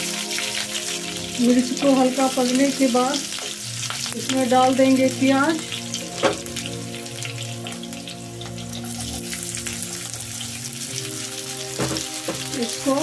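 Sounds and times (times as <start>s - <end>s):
light background music: 0.0s - 13.0s
oil sizzling and crackling: 0.0s - 13.0s.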